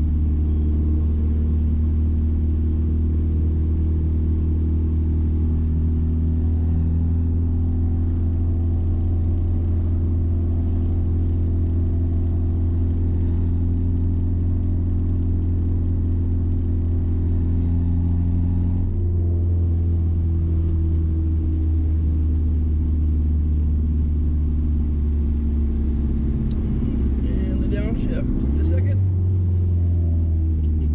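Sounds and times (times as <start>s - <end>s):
pickup engine drone from cab: 0.0s - 30.9s.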